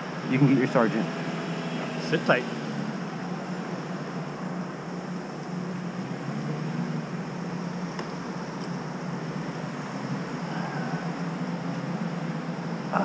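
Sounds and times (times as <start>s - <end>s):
low engine hum: 0.0s - 13.0s
traffic noise: 0.0s - 13.0s.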